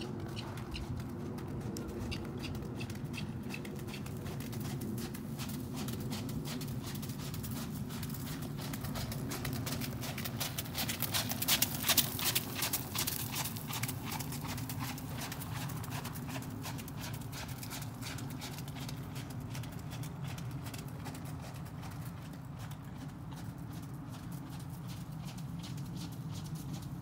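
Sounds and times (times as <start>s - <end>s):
horse hooves on wet gravel: 0.0s - 27.0s.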